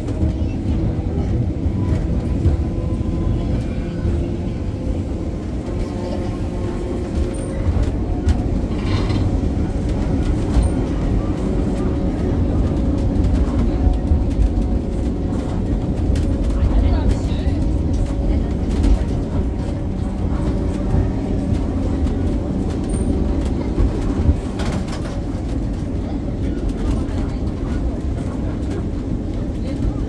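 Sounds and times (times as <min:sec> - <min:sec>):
tram rumbling on rails: 0:00.0 - 0:30.0.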